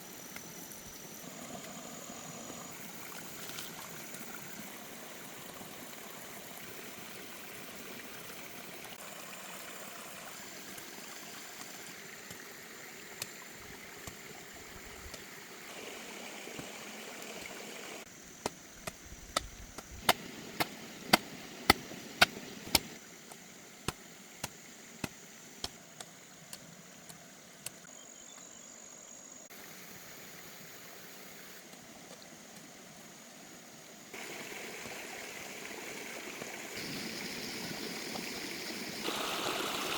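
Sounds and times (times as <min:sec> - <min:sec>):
flowing stream water: 0:00.0 - 0:18.1, 0:18.8 - 0:27.9, 0:29.5 - 0:39.9.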